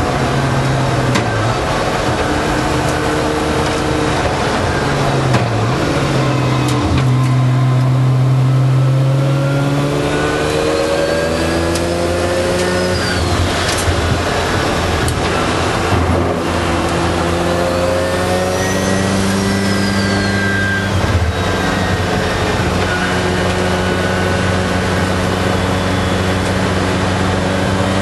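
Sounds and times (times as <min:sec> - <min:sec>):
race car engine running hard: 0:00.0 - 0:28.0.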